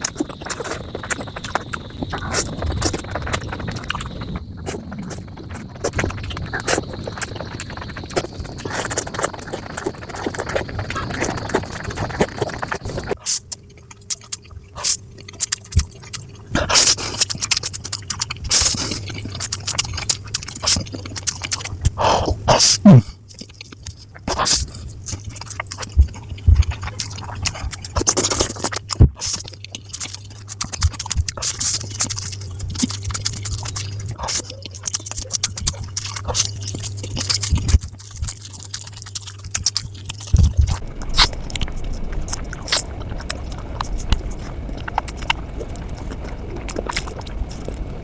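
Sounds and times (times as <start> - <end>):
chewing and mouth noises: 0.0 - 48.0
steady low hum: 0.0 - 48.0.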